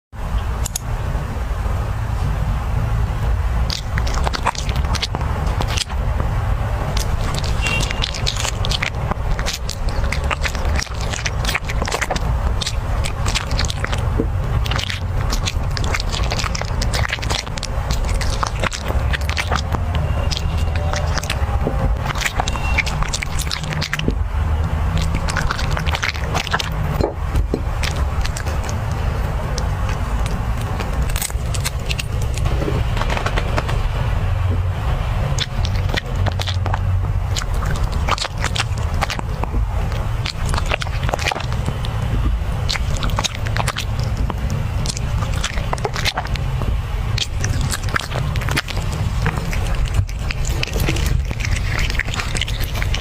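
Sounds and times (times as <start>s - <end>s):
low rumble: 0.2s - 53.0s
dog chewing food crunches: 3.6s - 53.0s.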